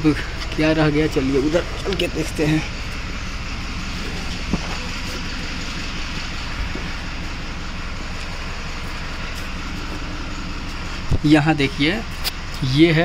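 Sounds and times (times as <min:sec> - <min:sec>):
engine-like running noise: 0:00.0 - 0:13.0.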